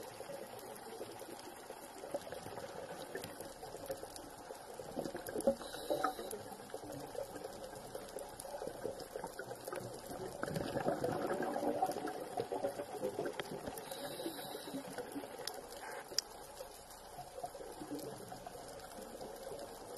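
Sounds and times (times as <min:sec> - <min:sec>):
underwater bubbling and crackling: 0:00.0 - 0:19.9.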